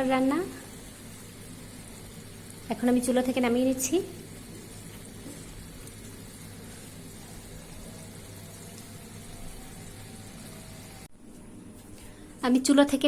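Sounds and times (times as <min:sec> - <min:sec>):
curry bubbling in a pan: 0:00.2 - 0:11.1.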